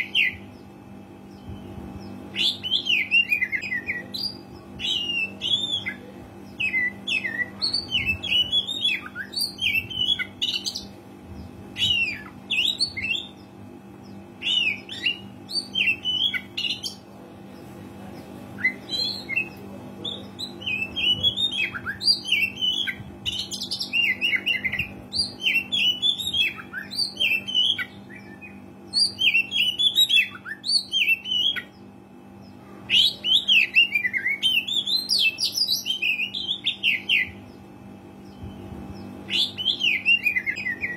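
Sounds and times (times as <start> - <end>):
bird song with chirps and whistles: 0.0 - 40.9
faint low hum: 0.0 - 40.9.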